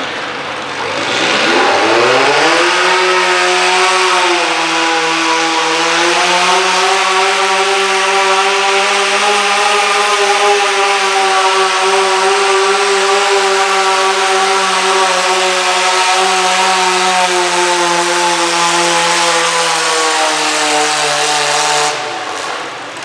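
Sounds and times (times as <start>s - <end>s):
garden tractor engine straining: 3.8s - 23.0s.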